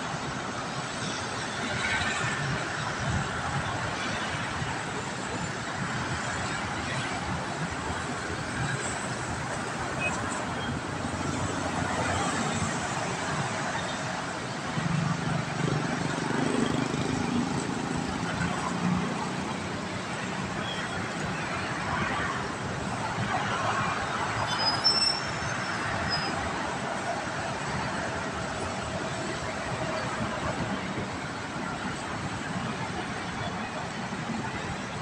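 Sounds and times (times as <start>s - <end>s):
city traffic roar: 0.0s - 35.0s.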